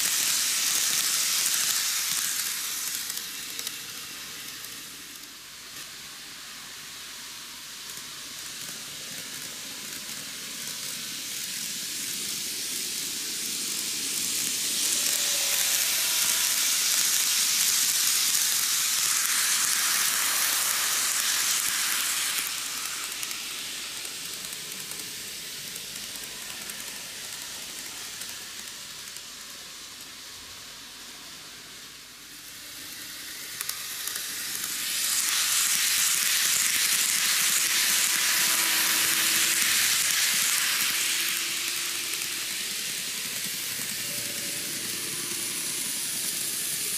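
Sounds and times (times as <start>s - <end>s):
model train rolling on track: 0.0s - 46.9s.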